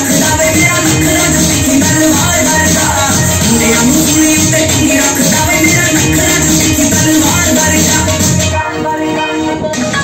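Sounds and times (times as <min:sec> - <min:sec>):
dance music: 0:00.0 - 0:10.0.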